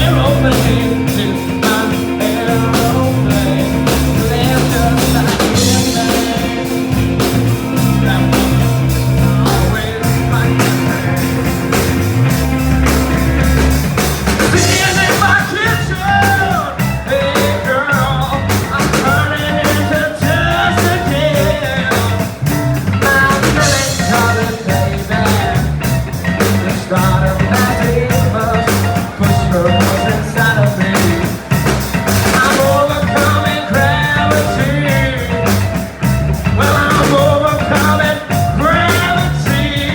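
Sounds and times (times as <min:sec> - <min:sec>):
lead vocal singing: 0:00.0 - 0:39.9
live rock band playing: 0:00.0 - 0:39.9.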